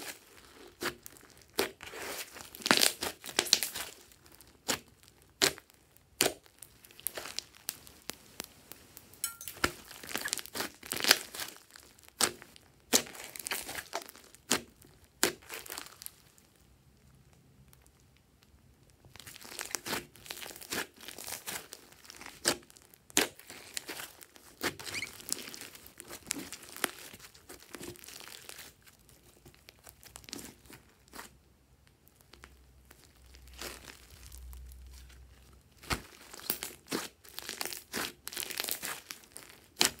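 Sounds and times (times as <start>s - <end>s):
hands squishing slime: 0.0s - 16.3s, 19.1s - 40.0s
sticky crackling and popping: 0.0s - 40.0s.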